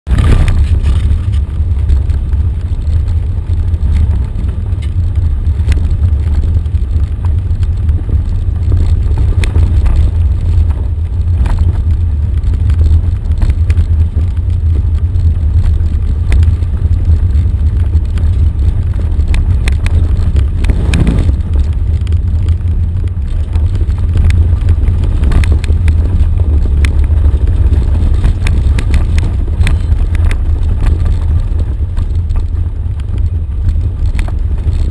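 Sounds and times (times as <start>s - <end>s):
vehicle engine rumbling: 0.0s - 34.9s
gravel clicks and rattles: 0.1s - 34.9s
wind on microphone: 0.1s - 34.9s.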